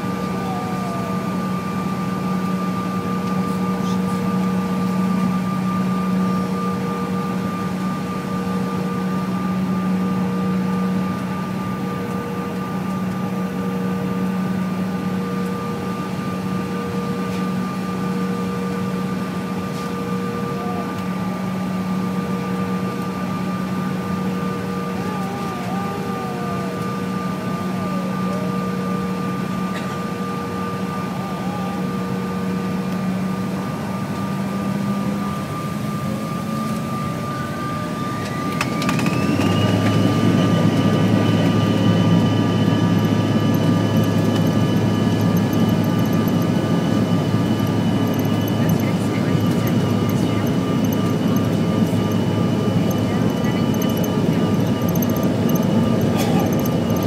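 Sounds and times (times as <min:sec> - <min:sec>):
aircraft cabin engine hum: 0:00.0 - 0:57.0
high engine whine: 0:00.0 - 0:57.0.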